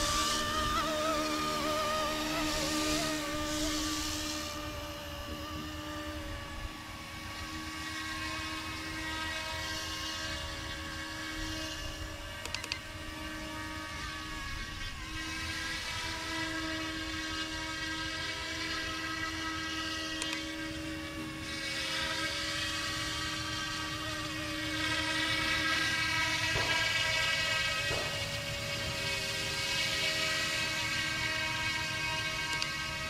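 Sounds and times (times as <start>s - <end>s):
rc helicopter motor whine: 0.0s - 33.0s.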